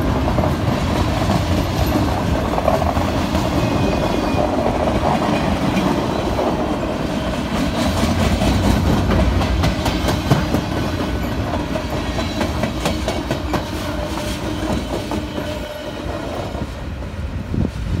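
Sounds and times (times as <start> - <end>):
train wheels rumbling and clicking: 0.0 - 18.0.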